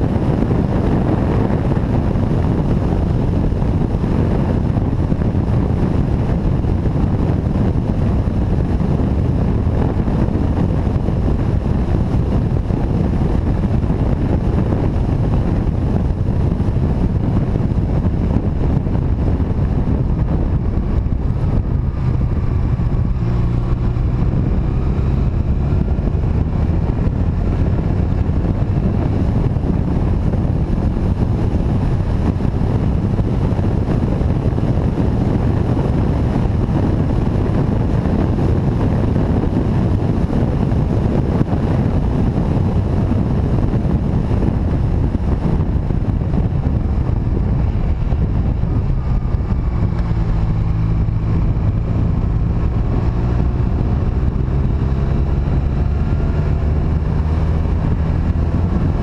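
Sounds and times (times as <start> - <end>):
motorcycle engine drone: 0.0 - 59.0
wind rushing over microphone: 0.0 - 59.0.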